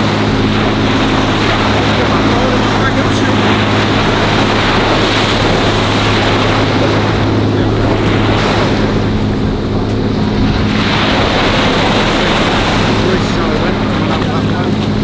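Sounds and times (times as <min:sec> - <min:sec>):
low hum: 0:00.0 - 0:15.0
surf breaking on beach: 0:00.0 - 0:15.0
wind on microphone: 0:00.0 - 0:15.0.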